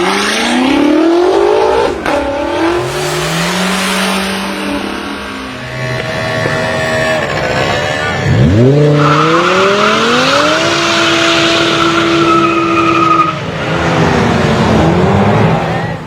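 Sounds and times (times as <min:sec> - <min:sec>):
car engine revving hard: 0:00.0 - 0:15.9.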